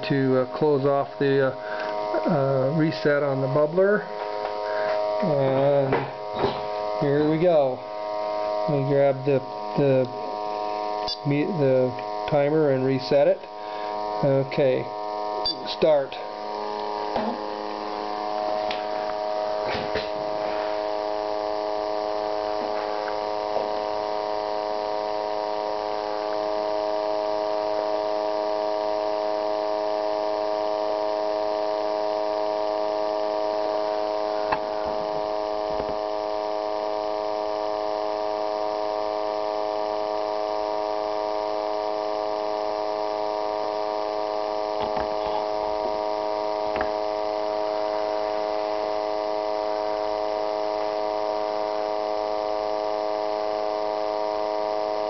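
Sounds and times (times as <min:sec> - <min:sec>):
electric pump motor humming: 0:00.0 - 0:55.0.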